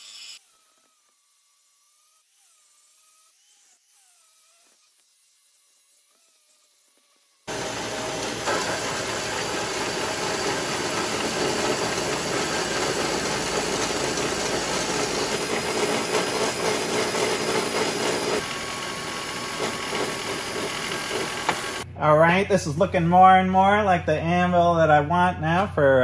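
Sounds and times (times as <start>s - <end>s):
bandsaw cutting metal: 0.0s - 21.8s
mechanical hum: 0.0s - 26.0s.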